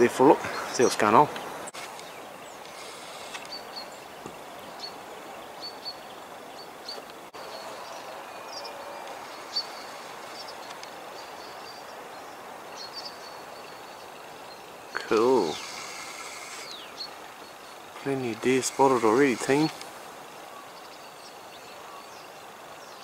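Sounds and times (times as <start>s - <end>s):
small birds chirping: 0.0s - 23.0s
steady outdoor hiss: 0.0s - 23.0s.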